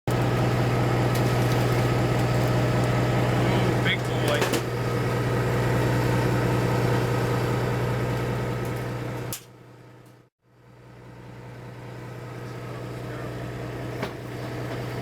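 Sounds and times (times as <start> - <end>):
boat engine droning: 0.1 - 9.0, 11.3 - 15.0.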